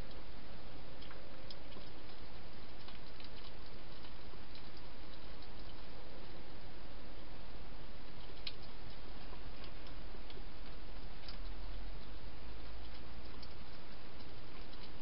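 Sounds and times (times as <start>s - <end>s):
steady hiss: 0.0s - 15.0s
hedgehog chewing food: 0.9s - 6.5s, 8.0s - 15.0s.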